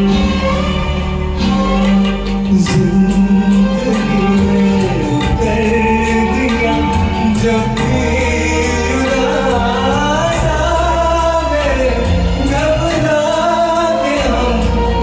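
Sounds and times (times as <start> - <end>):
instrumental backing with beat: 0.0 - 15.0
man singing: 2.4 - 15.0.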